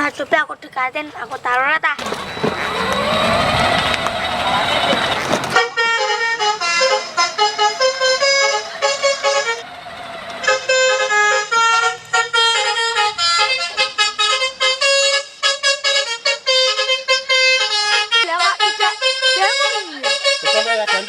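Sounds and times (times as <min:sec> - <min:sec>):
multi-tone truck horn tune: 0:02.0 - 0:21.0.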